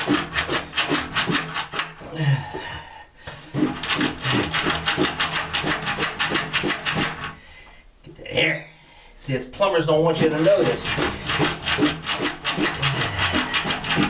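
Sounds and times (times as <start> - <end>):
plunger squelching in drain: 0.0 - 7.7, 10.1 - 14.0.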